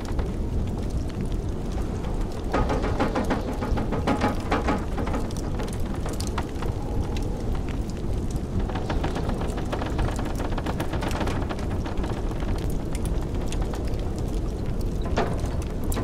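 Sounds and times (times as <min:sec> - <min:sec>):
low rumble of wind: 0:00.0 - 0:16.0
wood fire crackling and popping: 0:00.0 - 0:16.0.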